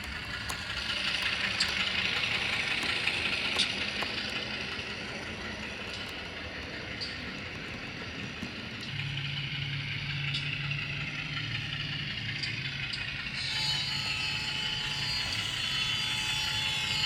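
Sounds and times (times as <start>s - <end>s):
low engine hum from speaker: 0.0s - 17.0s.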